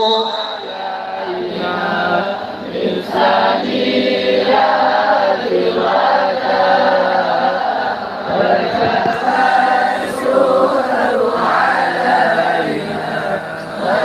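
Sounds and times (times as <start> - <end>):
group singing devotional song: 0.0 - 14.0.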